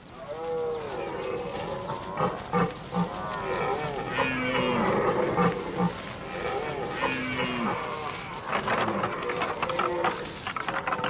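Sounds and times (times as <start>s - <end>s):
red deer stag roaring: 0.2s - 11.0s.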